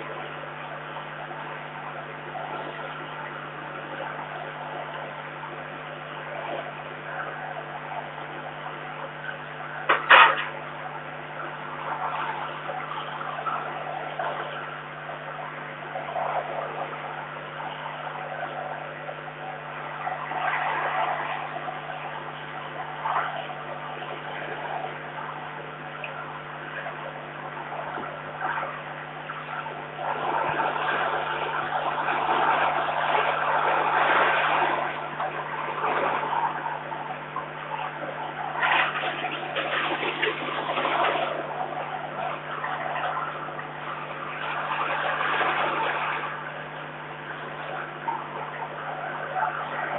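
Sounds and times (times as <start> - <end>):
steady electrical hum: 0.0 - 49.9.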